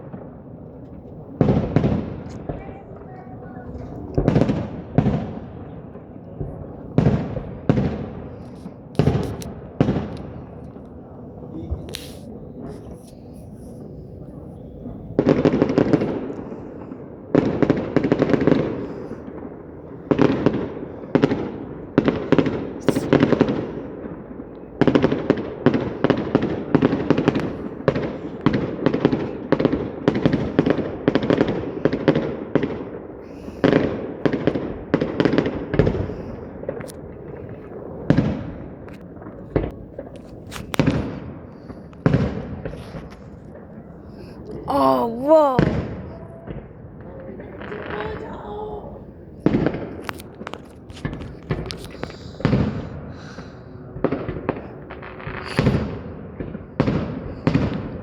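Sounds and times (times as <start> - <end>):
fireworks exploding with loud bangs: 0.0 - 58.0.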